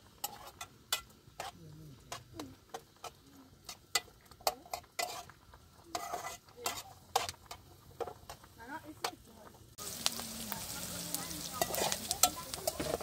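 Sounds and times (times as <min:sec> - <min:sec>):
utensil scraping a pot: 0:00.0 - 0:09.2, 0:09.8 - 0:13.0
utensil clinking in a cooking pot: 0:00.0 - 0:13.0.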